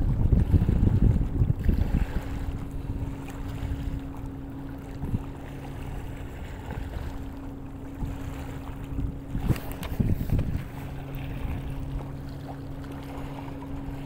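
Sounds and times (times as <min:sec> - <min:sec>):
low motor hum: 0:00.0 - 0:14.0
wind rumbling on microphone: 0:00.0 - 0:14.0.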